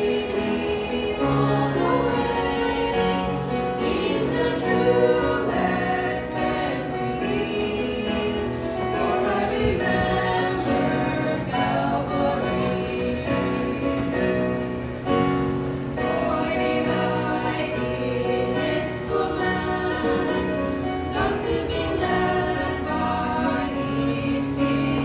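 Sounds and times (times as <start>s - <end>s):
women singing a hymn: 0.0s - 25.0s.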